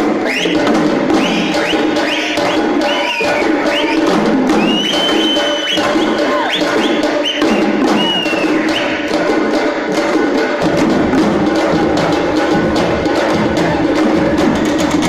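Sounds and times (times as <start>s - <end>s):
deep drum beats: 0.0s - 15.0s
drum ensemble playing fast rhythm: 0.0s - 15.0s.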